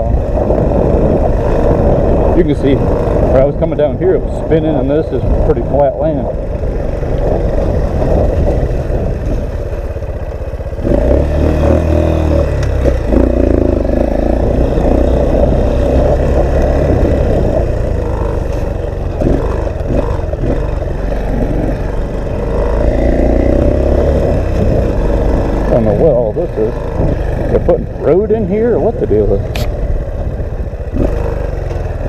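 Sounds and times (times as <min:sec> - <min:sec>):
motorcycle engine running: 0:00.0 - 0:32.0
wind buffeting microphone: 0:00.0 - 0:32.0.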